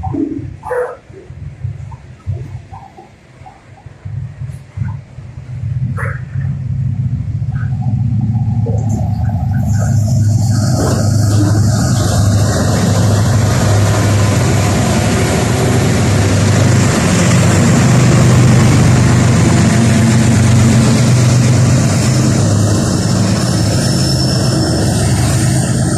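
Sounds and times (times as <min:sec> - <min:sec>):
diesel locomotive engines droning: 0:00.0 - 0:25.9.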